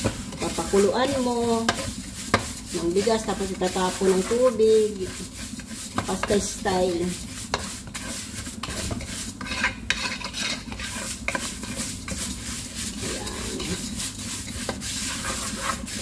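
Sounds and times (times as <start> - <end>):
light sizzle: 0.0 - 16.0
wooden spatula scraping pan: 0.0 - 16.0.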